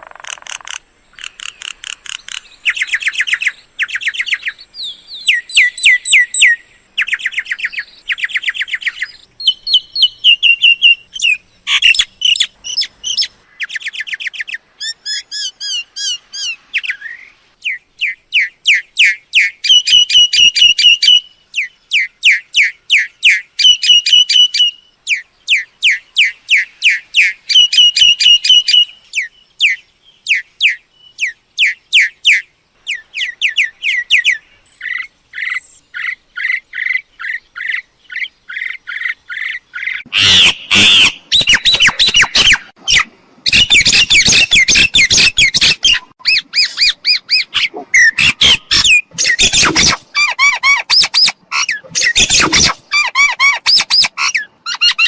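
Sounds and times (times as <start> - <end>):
myna chirps and whistles: 0.0 - 55.0.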